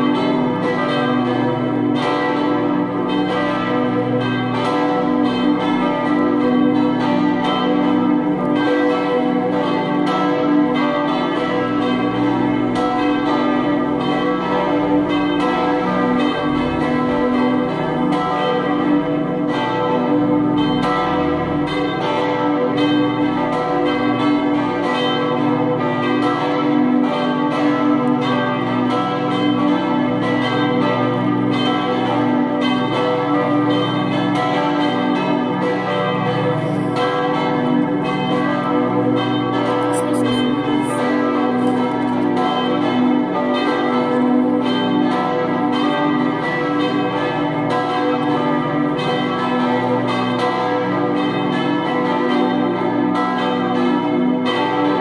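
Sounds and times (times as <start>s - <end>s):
church bells pealing: 0.0s - 55.0s.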